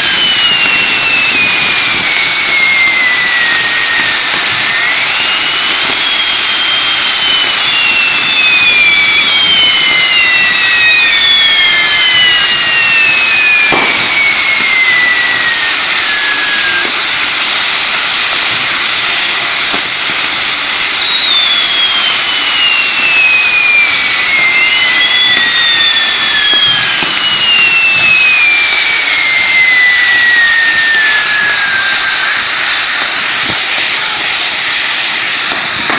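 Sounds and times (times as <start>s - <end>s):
descending firework whistles: 0.0s - 35.9s
fireworks hissing: 0.0s - 35.9s
sharp firework crack: 0.0s - 35.9s.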